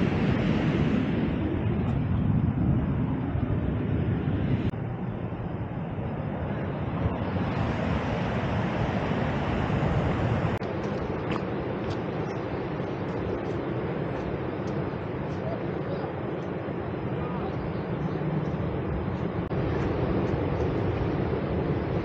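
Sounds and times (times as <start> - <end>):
ocean surf: 0.0 - 22.0
wind buffeting microphone: 0.0 - 22.0.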